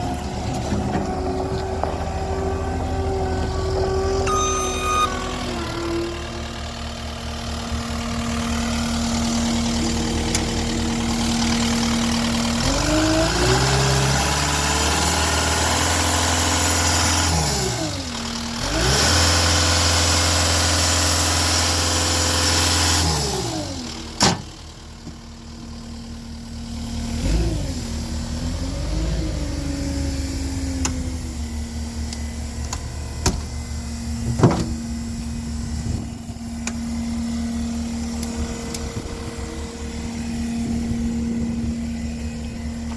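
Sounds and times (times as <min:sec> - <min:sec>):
diesel engine idling and revving: 0:00.0 - 0:42.9.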